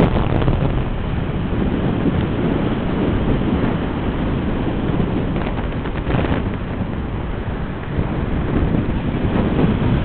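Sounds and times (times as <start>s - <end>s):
waves breaking on shore: 0.0s - 10.0s
wind buffeting microphone: 0.0s - 10.0s.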